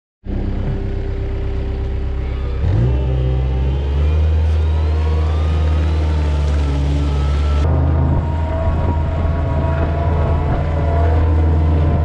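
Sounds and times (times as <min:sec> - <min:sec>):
faint whine rising in pitch: 0:00.3 - 0:12.0
loader engine revving: 0:00.3 - 0:12.0.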